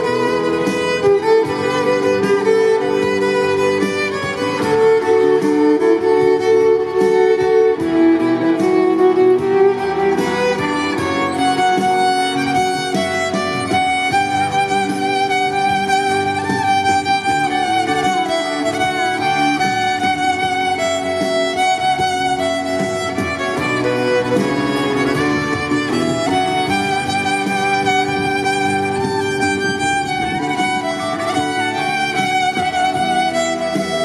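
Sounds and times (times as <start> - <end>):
violin melody over loudspeaker: 0.0 - 34.0.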